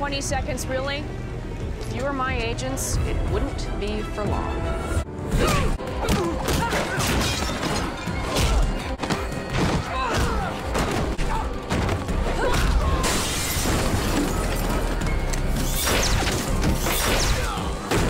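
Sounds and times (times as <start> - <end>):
dramatic film score: 0.0 - 18.0.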